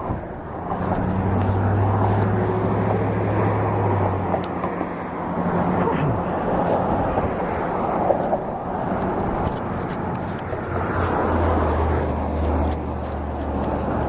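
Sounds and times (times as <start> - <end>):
wind rushing on microphone: 0.0 - 14.0.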